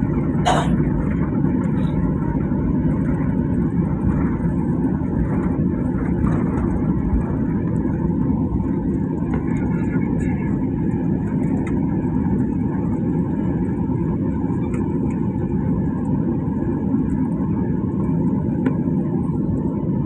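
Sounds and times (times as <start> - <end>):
aircraft cabin rumble: 0.0 - 20.0.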